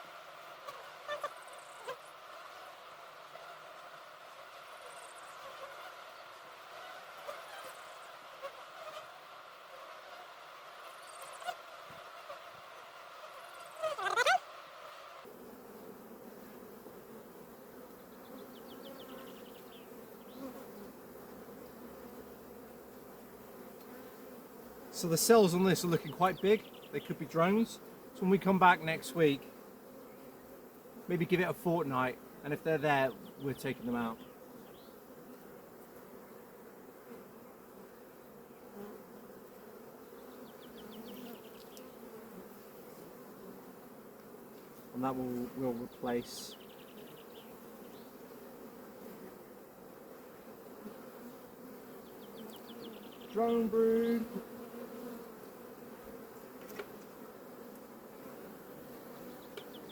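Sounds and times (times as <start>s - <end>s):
bees humming: 0.0s - 59.9s.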